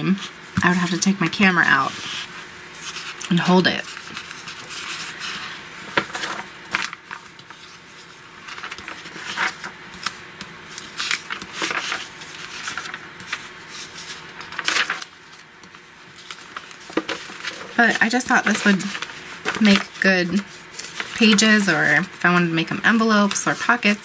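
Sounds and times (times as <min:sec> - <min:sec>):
paper handling: 0:00.6 - 0:24.0
magazine pages turning: 0:02.8 - 0:24.0.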